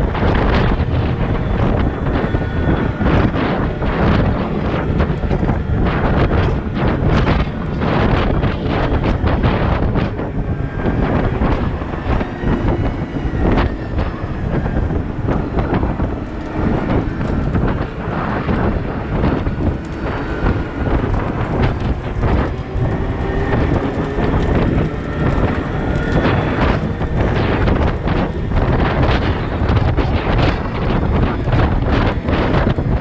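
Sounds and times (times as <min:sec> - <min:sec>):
knocks and clatter: 0:00.0 - 0:33.0
wheel loader engine under load: 0:00.0 - 0:33.0
wind buffeting microphone: 0:00.0 - 0:33.0.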